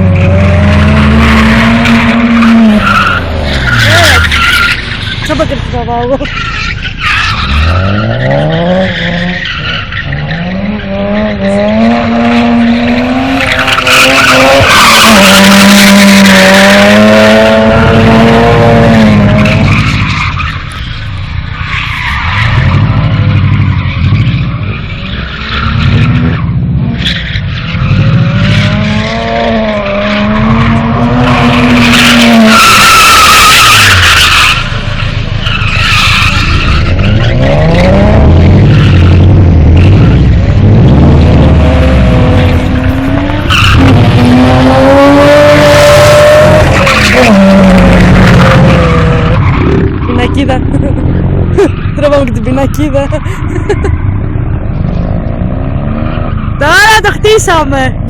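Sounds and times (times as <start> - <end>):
car engine revving: 0.0 - 58.0
tyres skidding and squealing: 0.0 - 58.0.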